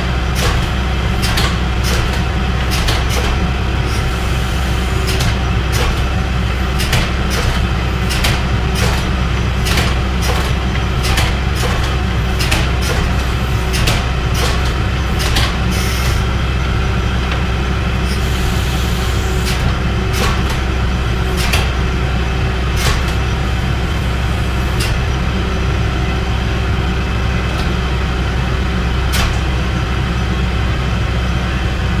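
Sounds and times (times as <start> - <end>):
electric motor and pump hum: 0.0 - 32.0.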